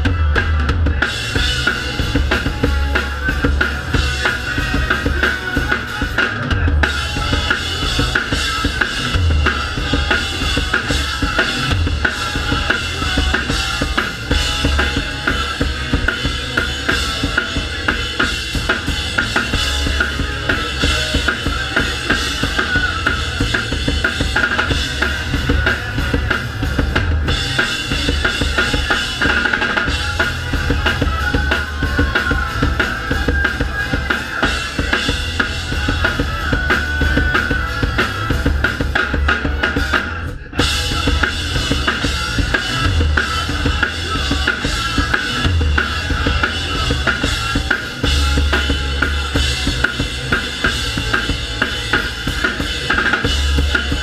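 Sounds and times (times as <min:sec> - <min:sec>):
drums playing fast beat: 0:00.0 - 0:54.0
live ska-punk band: 0:00.0 - 0:54.0.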